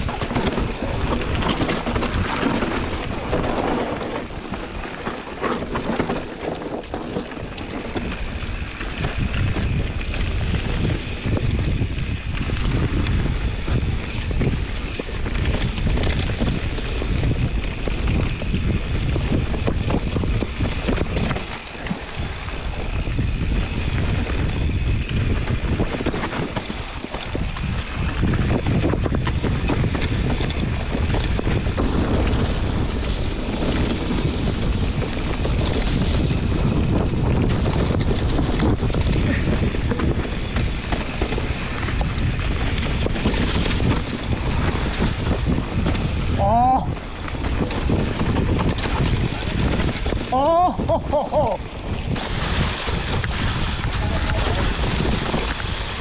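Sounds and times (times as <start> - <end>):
mountain bike rumble and rattle: 0.0 - 56.0
wind buffeting microphone: 0.0 - 56.0.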